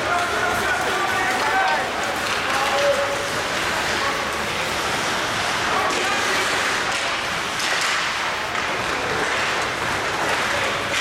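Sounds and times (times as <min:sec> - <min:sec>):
arena noise: 0:00.0 - 0:11.0
hockey sticks and puck clicking: 0:00.0 - 0:11.0
skate blades scraping ice: 0:00.0 - 0:11.0.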